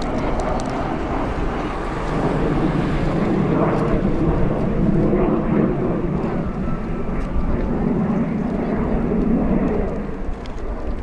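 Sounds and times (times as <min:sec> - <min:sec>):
jet aircraft flying overhead: 0:00.0 - 0:11.0.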